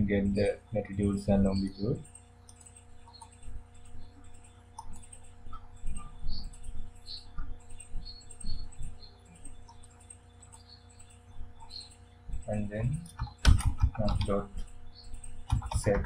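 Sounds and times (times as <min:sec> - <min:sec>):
electrical hum: 0:00.0 - 0:16.0
mouse and keyboard clicks: 0:02.0 - 0:16.0.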